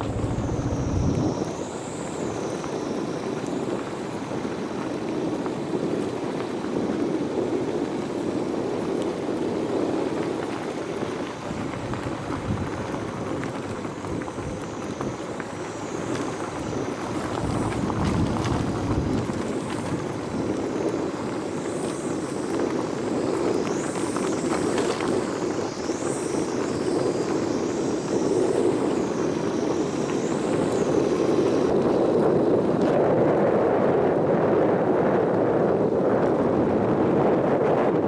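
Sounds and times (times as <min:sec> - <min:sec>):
vehicle rumbling on dirt road: 0:00.0 - 0:38.0
wind buffeting microphone: 0:00.0 - 0:38.0.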